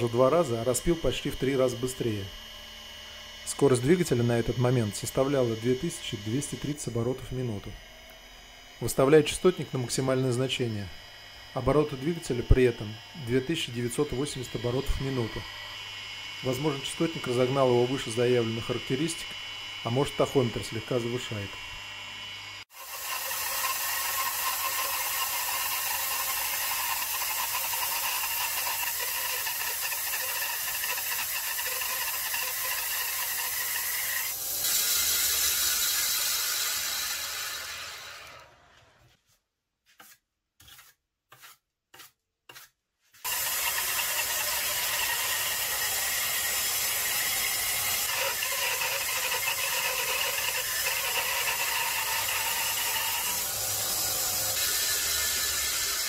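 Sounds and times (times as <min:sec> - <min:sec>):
band saw cutting wood: 0:00.0 - 0:39.1, 0:40.0 - 0:56.0.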